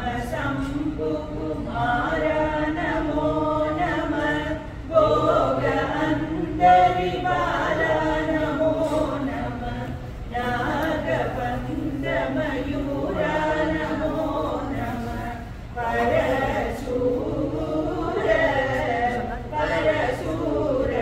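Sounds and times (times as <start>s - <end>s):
group chanting in unison: 0.0s - 21.0s.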